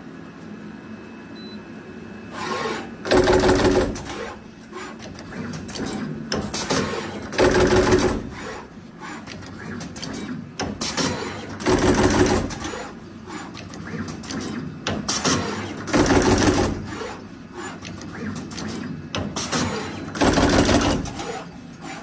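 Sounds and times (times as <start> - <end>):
machine rapid clicking: 2.4 - 4.4, 5.0 - 8.6, 9.2 - 21.4.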